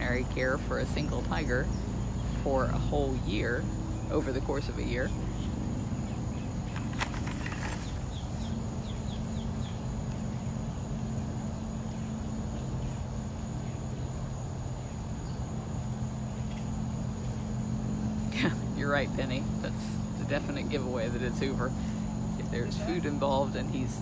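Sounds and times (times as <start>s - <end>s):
insect drone: 0.0s - 24.0s
low mechanical hum: 0.0s - 24.0s.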